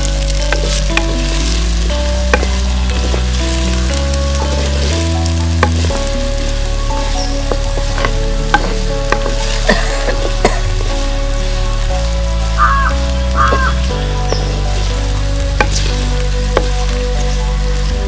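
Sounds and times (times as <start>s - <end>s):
food sizzling in pot: 0.0s - 17.9s.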